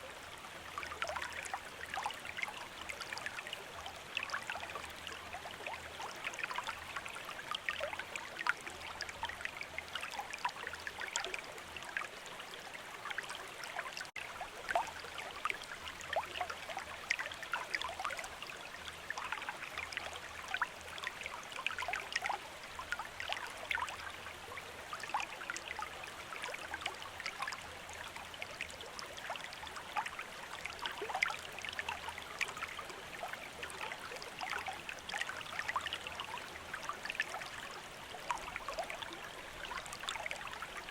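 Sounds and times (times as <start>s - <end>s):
stream water bubbling: 0.0s - 40.9s.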